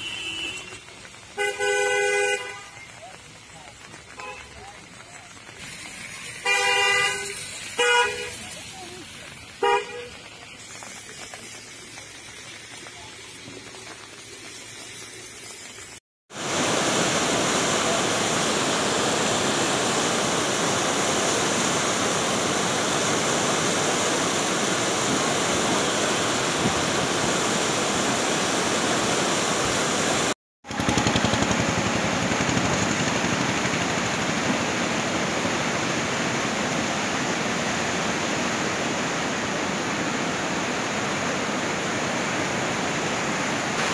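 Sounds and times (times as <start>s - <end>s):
rushing floodwater: 0.0s - 15.1s, 15.9s - 43.9s.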